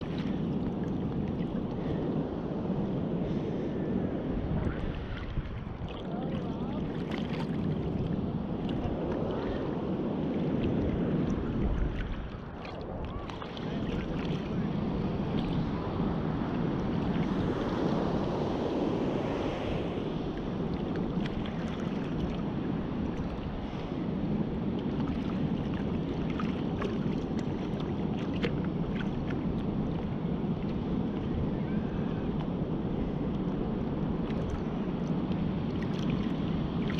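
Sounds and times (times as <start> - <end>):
ocean surf breaking: 0.0 - 36.9
wind buffeting microphone: 0.0 - 36.9.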